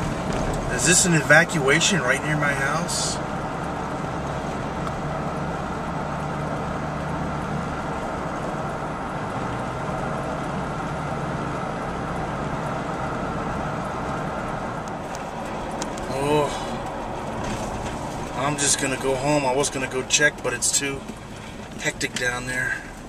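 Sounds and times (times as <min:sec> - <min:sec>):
car engine hum: 0:00.0 - 0:23.0
road noise: 0:00.0 - 0:23.0.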